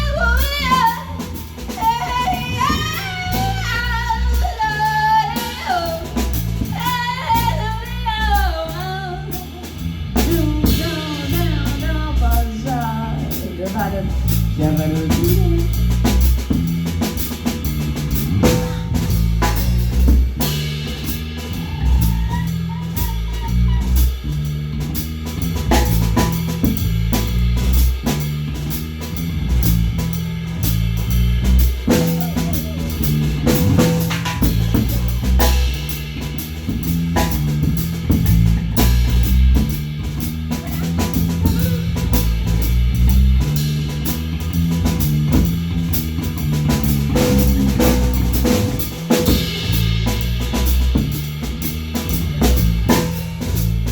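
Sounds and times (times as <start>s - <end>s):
drum rimshots: 0.0s - 53.9s
live rock band playing: 0.0s - 53.9s.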